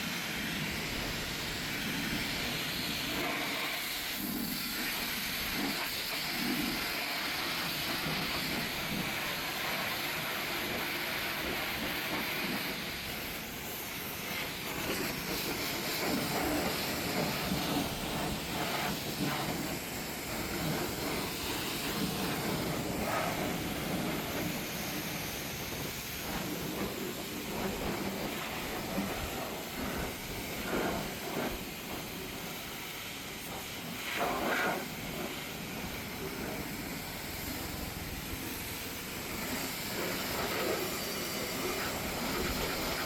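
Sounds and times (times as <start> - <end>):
pressure washer spraying water: 0.0 - 43.0.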